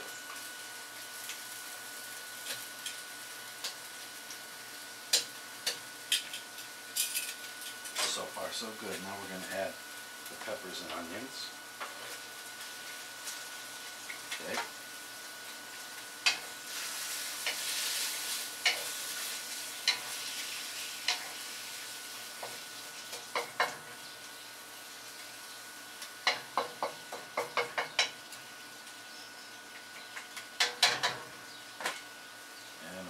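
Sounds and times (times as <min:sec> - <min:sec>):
food sizzling in a wok: 0:00.0 - 0:33.0.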